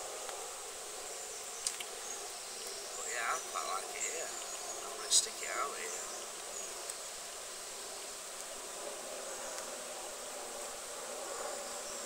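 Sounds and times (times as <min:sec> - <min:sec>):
faint hum: 0:00.0 - 0:12.0
steady background hiss: 0:00.0 - 0:12.0.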